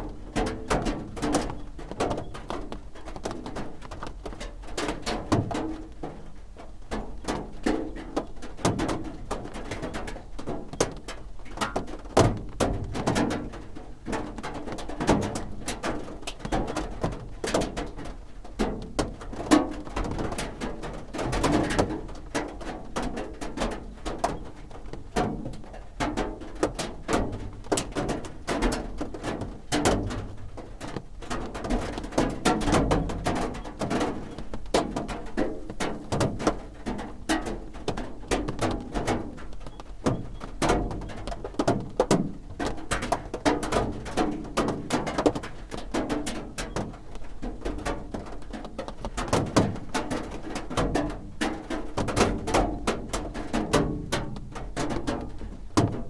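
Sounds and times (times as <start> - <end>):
rain drumming on a roof: 0.0 - 56.0.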